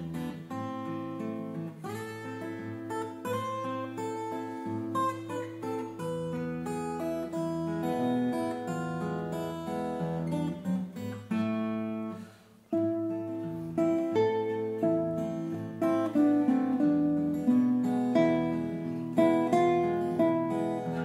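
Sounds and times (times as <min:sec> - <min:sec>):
two guitars playing a tune: 0:00.0 - 0:21.0.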